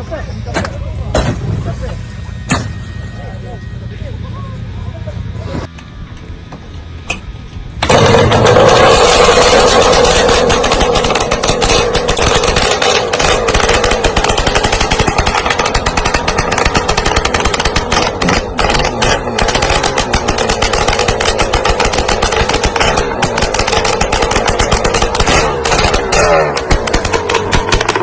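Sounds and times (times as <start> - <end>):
small engine running hard: 0.0 - 28.0.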